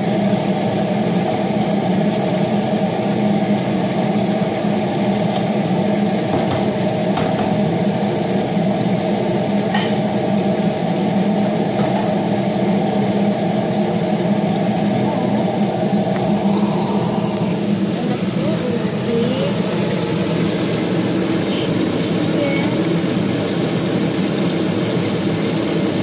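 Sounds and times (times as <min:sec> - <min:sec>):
range hood exhaust fan whirring: 0:00.0 - 0:26.0.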